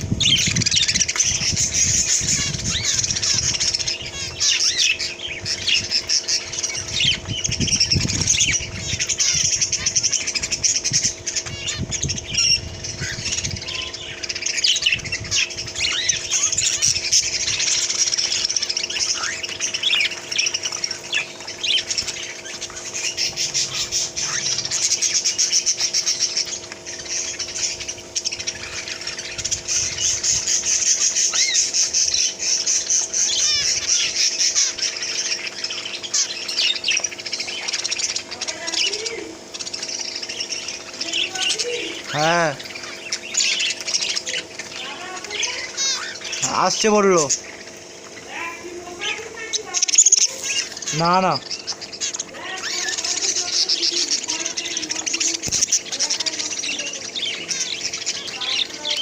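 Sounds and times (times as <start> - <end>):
small birds chirping and squawking: 0.0 - 59.0.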